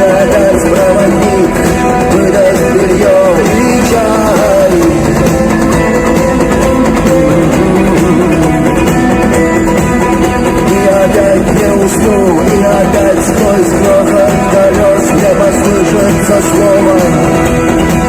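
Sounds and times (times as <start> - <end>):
lead guitar bending notes: 0.0 - 18.0
rock band instrumental: 0.0 - 18.0.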